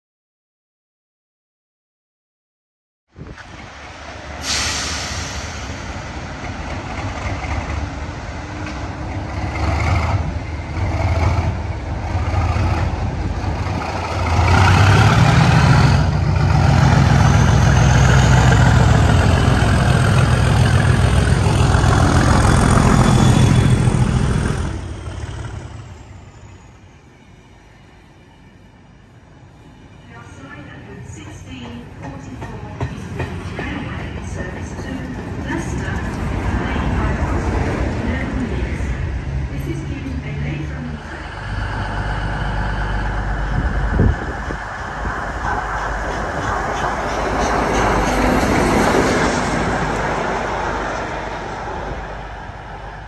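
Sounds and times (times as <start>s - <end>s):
diesel locomotive passing: 3.2s - 53.0s.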